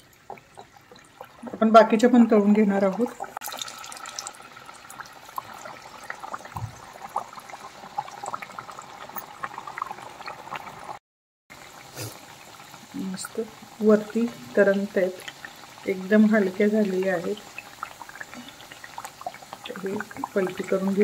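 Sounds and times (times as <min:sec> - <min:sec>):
hot oil sizzling and crackling: 0:00.0 - 0:21.0.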